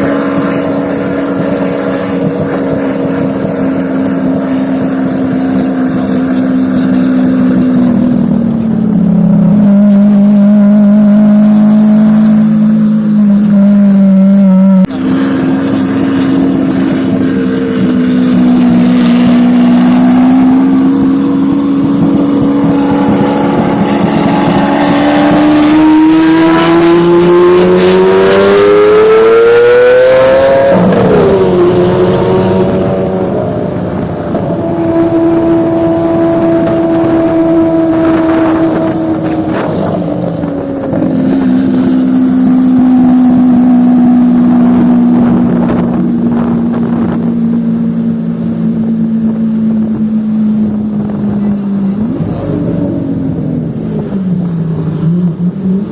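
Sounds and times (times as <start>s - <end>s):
sports car engine revving: 0.0s - 55.9s.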